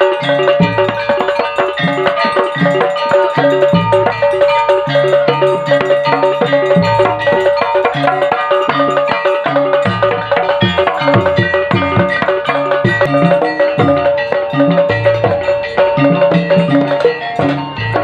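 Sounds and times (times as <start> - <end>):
percussion music with drums and mallets: 0.0 - 18.0.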